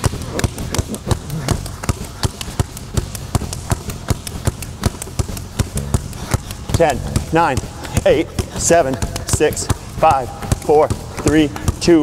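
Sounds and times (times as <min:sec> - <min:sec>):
basketball bouncing on gym floor: 0:00.0 - 0:12.0.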